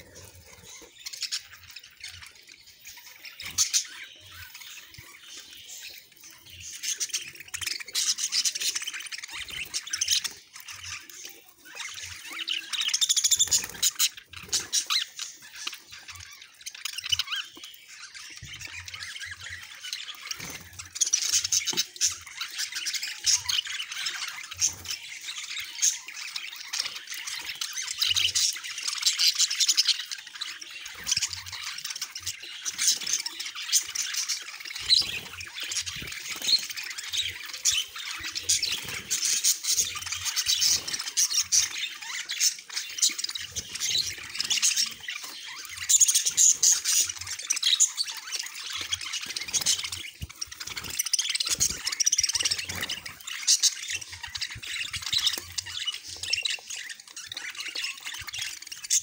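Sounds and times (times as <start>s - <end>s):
beaks pecking at seed: 0.0s - 59.0s
budgerigars chattering and chirping: 0.0s - 59.0s.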